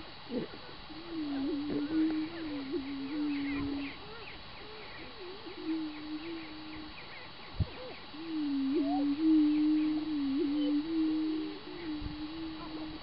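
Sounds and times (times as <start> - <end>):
prairie chickens booming: 0.0 - 13.0.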